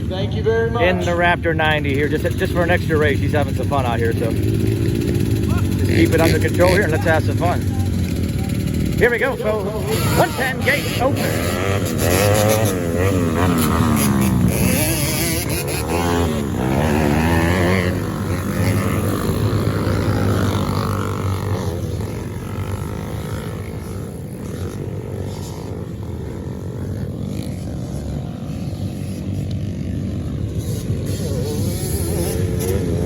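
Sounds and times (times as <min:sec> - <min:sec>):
small quad engines revving: 0:00.0 - 0:33.0.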